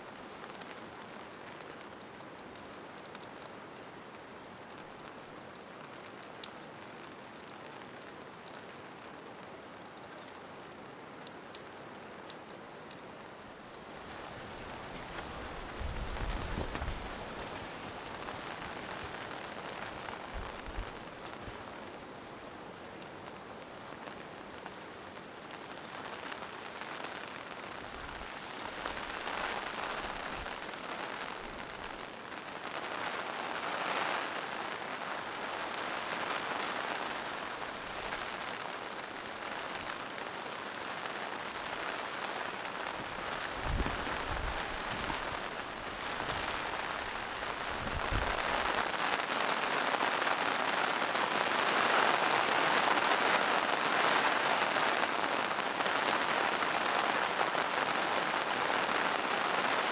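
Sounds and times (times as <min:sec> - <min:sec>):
rain falling in a forest: 0:00.0 - 0:59.9.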